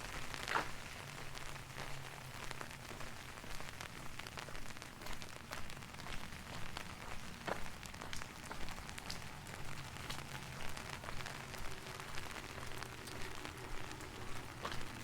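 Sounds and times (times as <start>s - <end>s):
rain dripping on hard surfaces: 0.0s - 15.0s.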